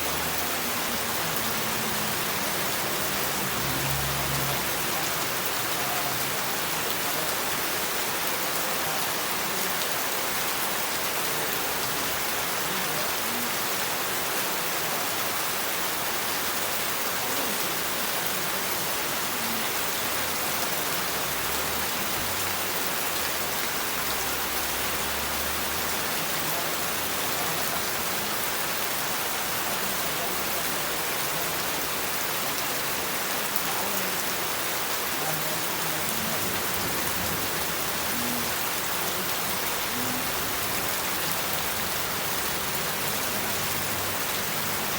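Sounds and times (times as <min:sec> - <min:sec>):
heavy rain pattering: 0:00.0 - 0:44.9.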